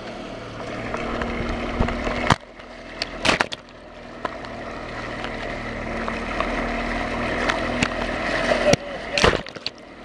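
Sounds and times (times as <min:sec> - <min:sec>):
boat engine hum: 0:00.0 - 0:10.0
water rushing along boat hull: 0:00.0 - 0:10.0.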